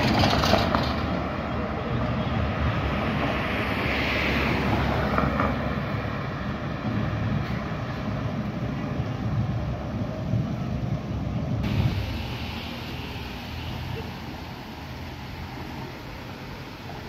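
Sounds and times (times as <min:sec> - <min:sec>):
traffic rumbling past: 0:00.0 - 0:17.0.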